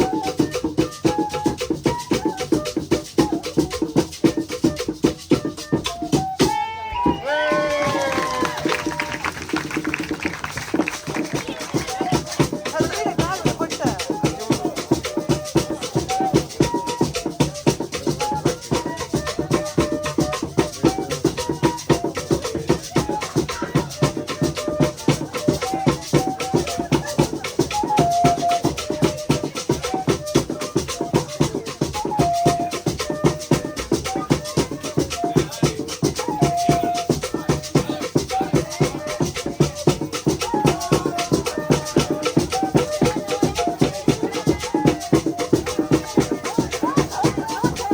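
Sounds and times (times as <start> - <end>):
shaker rattles: 0.0 - 6.6, 7.5 - 47.9
fast drumming: 0.0 - 47.9.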